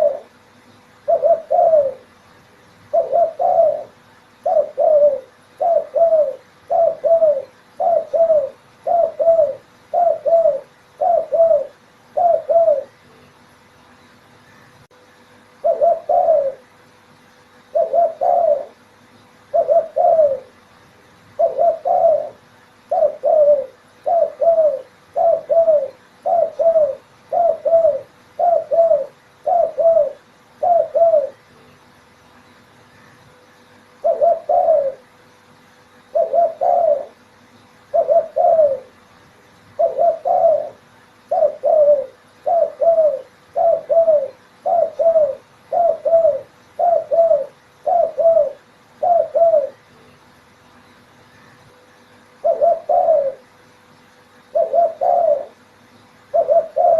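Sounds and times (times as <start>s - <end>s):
dove cooing: 0.0s - 2.3s, 2.9s - 13.0s, 15.6s - 16.8s, 17.6s - 20.7s, 21.3s - 31.6s, 32.9s - 35.2s, 35.9s - 49.9s, 51.4s - 53.8s, 54.4s - 55.7s, 56.3s - 56.9s.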